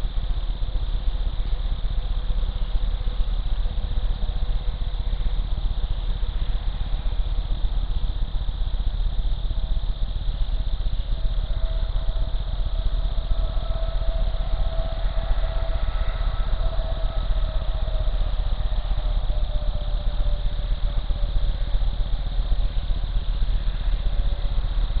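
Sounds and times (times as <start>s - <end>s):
faint steady tone: 0.0s - 25.0s
low electrical buzz: 0.0s - 25.0s.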